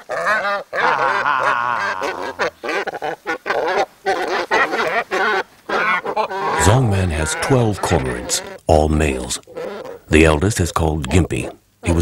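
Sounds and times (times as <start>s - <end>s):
cormorants honking: 0.0s - 10.3s.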